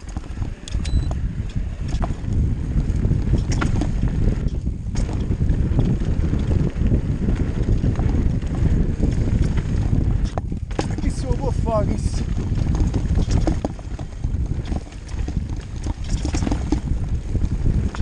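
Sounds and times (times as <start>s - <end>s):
bike clicks and rattles: 0.0s - 18.0s
tyres rumbling on dirt trail: 0.0s - 18.0s
wind on microphone: 0.0s - 18.0s.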